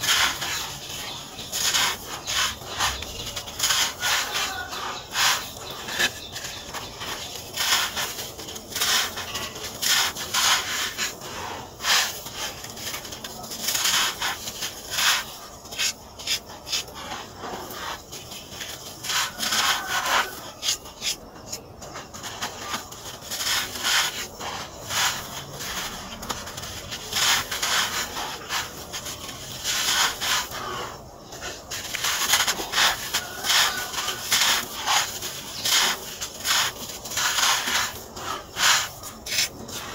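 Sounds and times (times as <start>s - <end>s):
sand rubbed between fingers: 0.0s - 39.9s.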